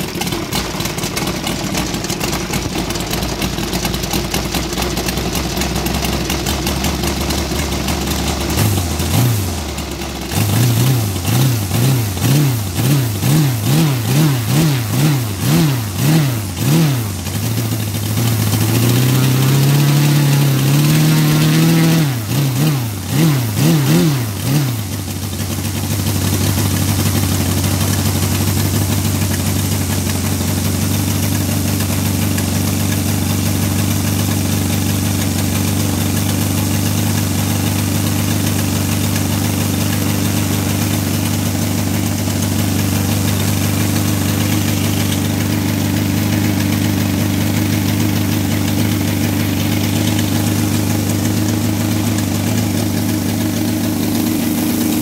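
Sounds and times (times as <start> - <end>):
model aircraft engine running: 0.0 - 55.0.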